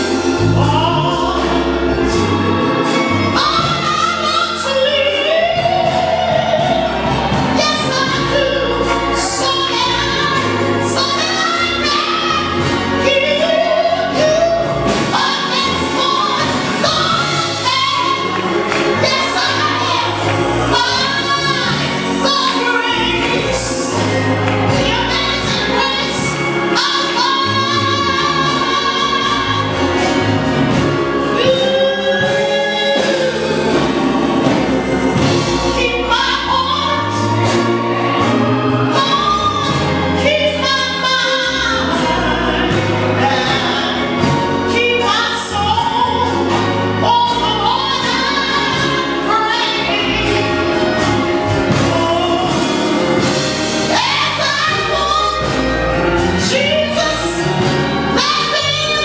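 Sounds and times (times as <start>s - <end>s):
gospel choir singing: 0.0s - 59.0s
steady bass line: 0.0s - 59.0s.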